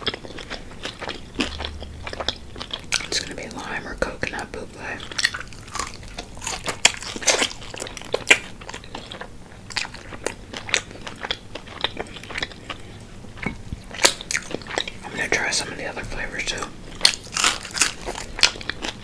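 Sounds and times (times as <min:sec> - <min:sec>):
crunching and chewing fried chicken: 0:00.0 - 0:19.0.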